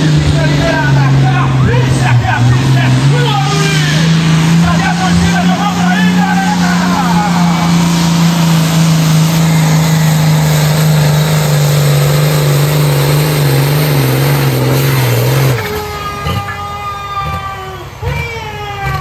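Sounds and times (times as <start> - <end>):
diesel engine running flat out: 0.0 - 19.0.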